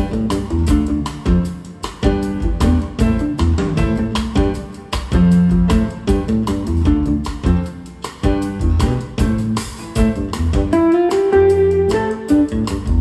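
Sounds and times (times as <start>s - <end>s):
drums: 0.0s - 13.0s
electric bass guitar: 0.0s - 13.0s.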